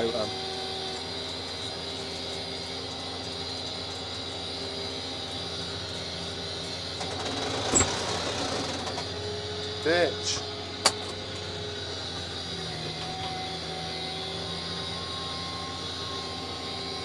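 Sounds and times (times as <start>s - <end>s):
tractor running: 0.0s - 17.0s.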